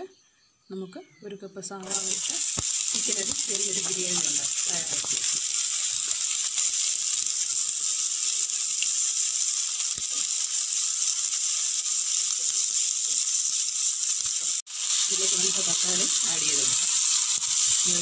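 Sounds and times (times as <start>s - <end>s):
onions sizzling in oil: 1.8s - 18.0s.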